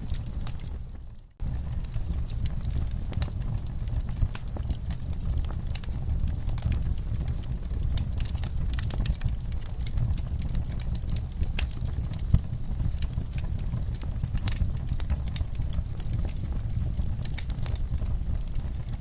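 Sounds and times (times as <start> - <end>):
fire crackling and snapping: 0.0 - 19.0
flames rumbling: 0.0 - 19.0.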